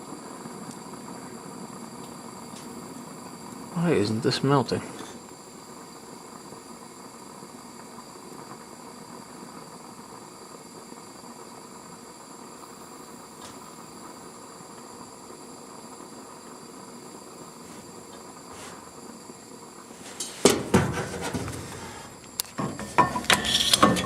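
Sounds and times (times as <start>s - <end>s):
torch flame hissing: 0.0s - 24.0s.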